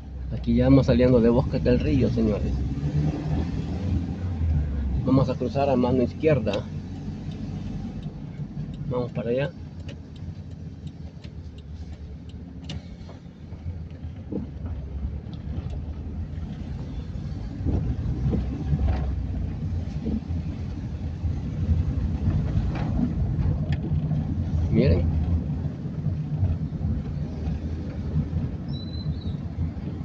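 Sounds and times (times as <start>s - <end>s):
car engine from inside cabin: 0.0s - 30.0s
road rumble: 0.0s - 30.0s.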